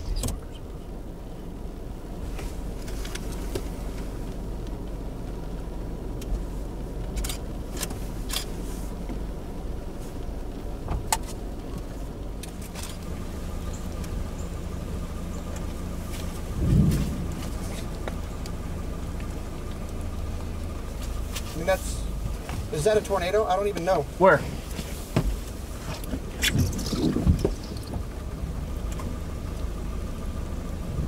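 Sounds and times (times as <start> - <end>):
car engine idling: 0.0 - 31.0
raindrops tapping windshield: 1.7 - 31.0.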